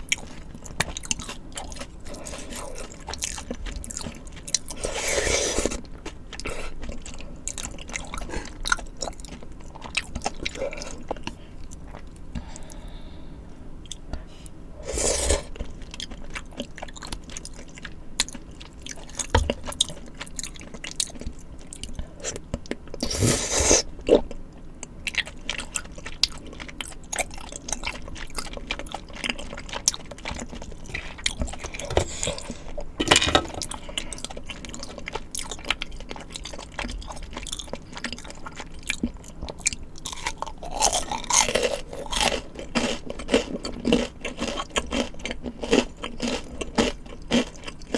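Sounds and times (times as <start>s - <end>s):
close-miked chewing: 0.0s - 12.9s, 13.8s - 33.0s, 33.6s - 47.9s.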